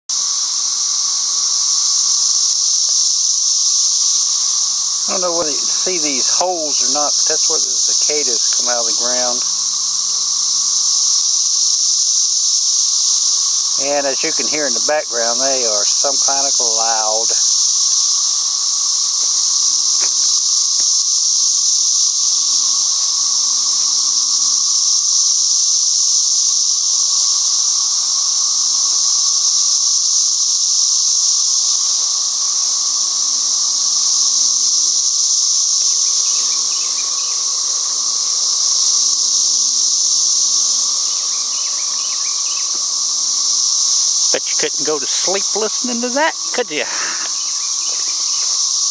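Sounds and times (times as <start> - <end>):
cicadas droning: 0.1 - 48.9.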